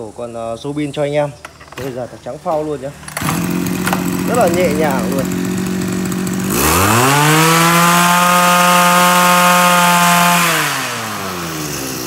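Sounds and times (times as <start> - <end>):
brush cutter engine revving: 1.5 - 12.0.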